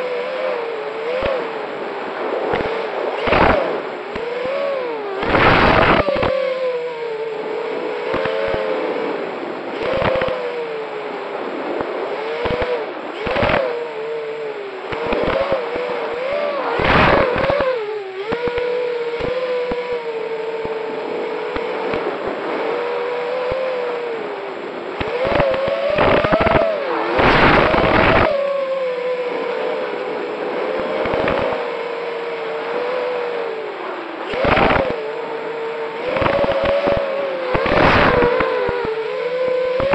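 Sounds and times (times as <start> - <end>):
drone motors whining: 0.0 - 39.9
loud rushes of noise: 0.0 - 39.9.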